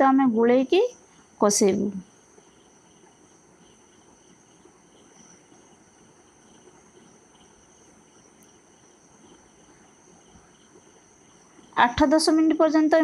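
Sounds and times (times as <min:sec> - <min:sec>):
faint crickets chirping: 0:00.0 - 0:13.0
low background hiss: 0:00.0 - 0:13.0.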